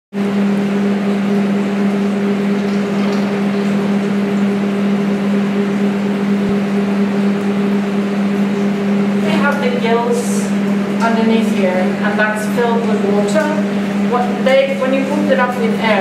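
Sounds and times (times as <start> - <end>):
machinery hum: 0.2 - 16.0.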